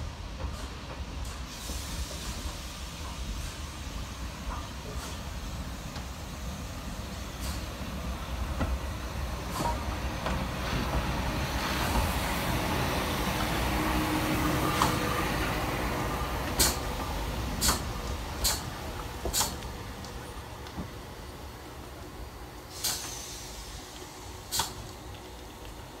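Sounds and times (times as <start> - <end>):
steam locomotive passing: 0.0 - 26.0.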